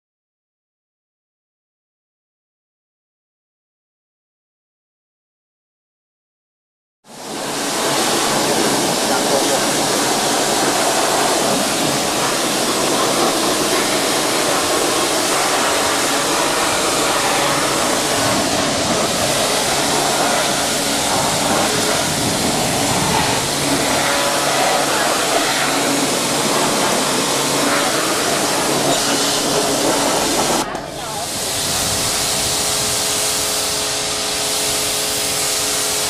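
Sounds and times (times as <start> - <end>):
pressure washer jet hissing: 7.1 - 36.0.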